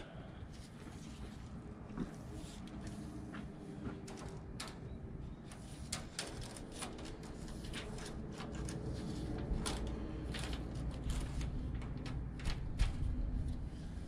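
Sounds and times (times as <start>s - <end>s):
steady low rumble: 0.0s - 14.0s
light clicks and scrapes: 0.5s - 14.0s.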